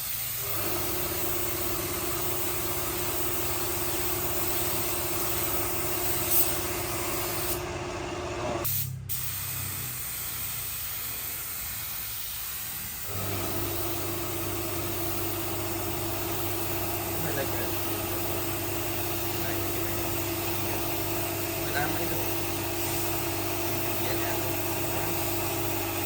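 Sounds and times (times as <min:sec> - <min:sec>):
spray gun hissing: 0:00.0 - 0:07.6, 0:08.6 - 0:26.0
machine humming: 0:00.5 - 0:08.7, 0:13.1 - 0:26.0.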